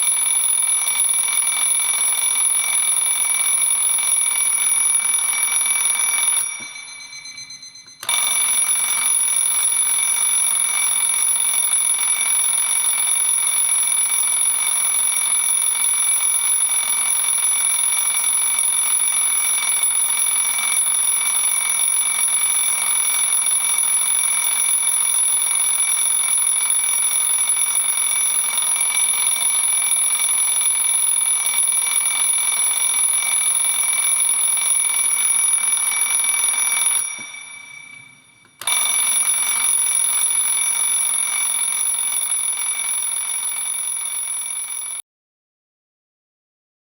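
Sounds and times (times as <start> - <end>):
twin-bell alarm clock ringing: 0.0 - 45.0.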